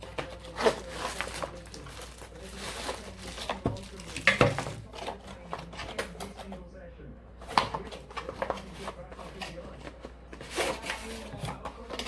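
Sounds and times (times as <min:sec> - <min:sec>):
plastic and cardboard rustling: 0:00.0 - 0:06.7, 0:07.4 - 0:12.0.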